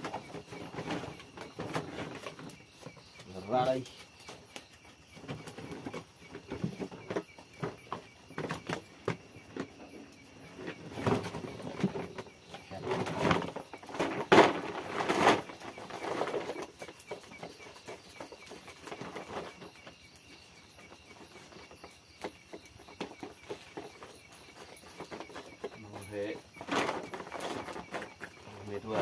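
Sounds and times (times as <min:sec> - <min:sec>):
night insects chirping: 0:00.0 - 0:29.0.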